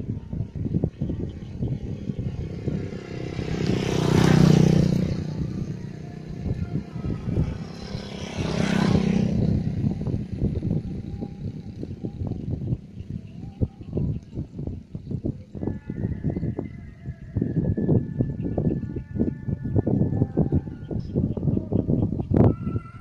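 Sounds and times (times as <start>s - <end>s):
motorcycles passing: 0.0s - 23.0s
wind rumble on microphone: 0.0s - 23.0s.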